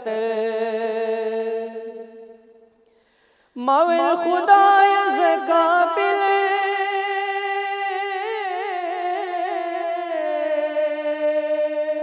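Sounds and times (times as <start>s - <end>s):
man singing unaccompanied: 0.0s - 2.5s, 3.6s - 12.0s.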